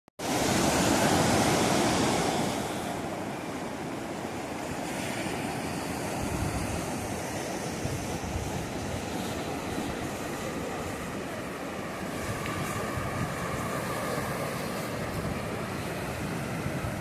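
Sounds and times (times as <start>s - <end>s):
sea surf washing onto shore: 0.2s - 17.0s.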